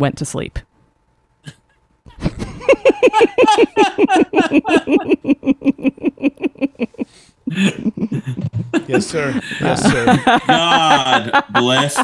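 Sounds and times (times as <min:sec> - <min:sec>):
man laughing hard: 0:02.2 - 0:12.0.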